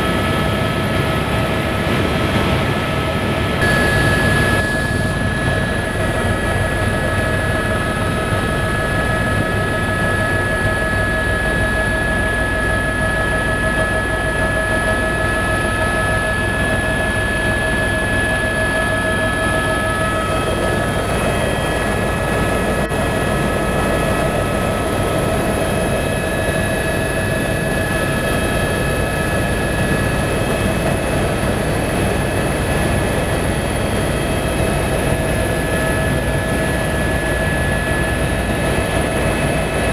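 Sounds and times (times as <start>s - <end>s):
constant whining tones: 0.0s - 39.9s
helicopter engine and rotor noise: 0.0s - 39.9s.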